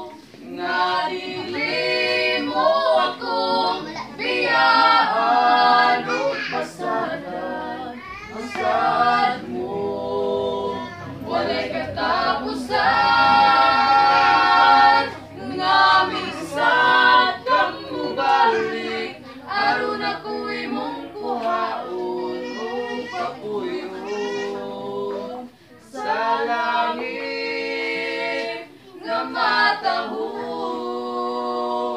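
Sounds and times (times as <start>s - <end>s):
voices singing a hymn: 0.0s - 31.9s.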